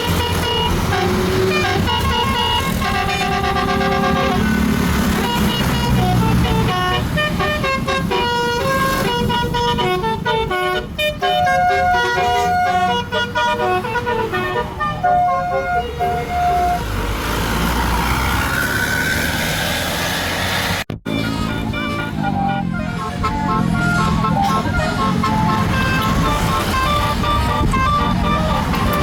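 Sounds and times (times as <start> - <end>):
multi-tone air horn tune: 0.0 - 16.9, 21.0 - 29.0.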